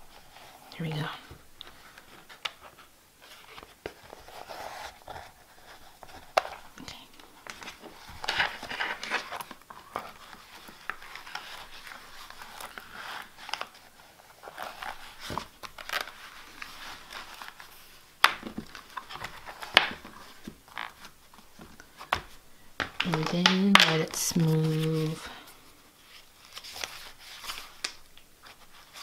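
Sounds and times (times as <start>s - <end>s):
notebook cover and paper rustling: 0.0s - 29.0s.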